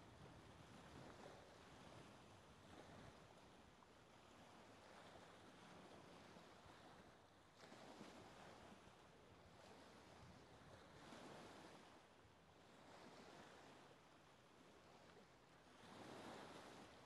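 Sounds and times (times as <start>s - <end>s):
small lake waves washing: 0.0s - 17.0s.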